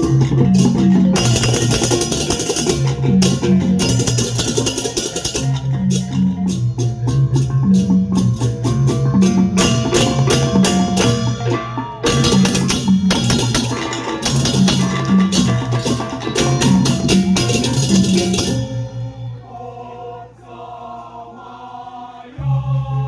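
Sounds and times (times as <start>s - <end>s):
drumming: 0.0s - 19.2s
cymbal clashes: 0.0s - 19.5s
gongs playing low notes: 0.0s - 19.6s.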